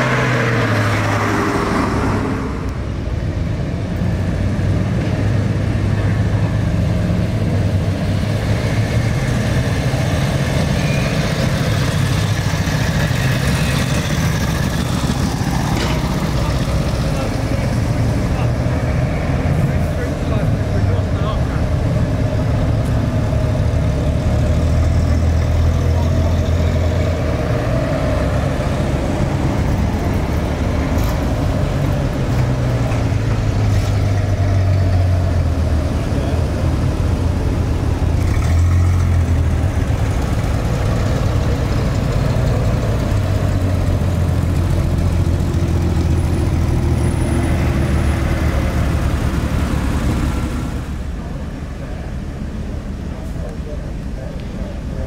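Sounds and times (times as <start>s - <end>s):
military vehicle engines rumbling: 0.0s - 55.0s.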